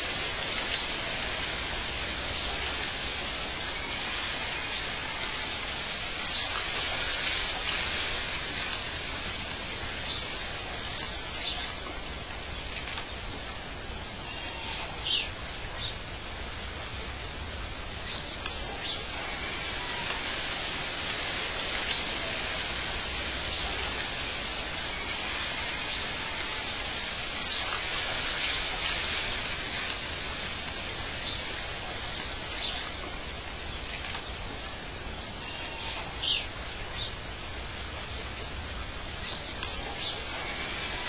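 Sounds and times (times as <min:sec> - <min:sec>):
steady outdoor hiss: 0:00.0 - 0:41.0.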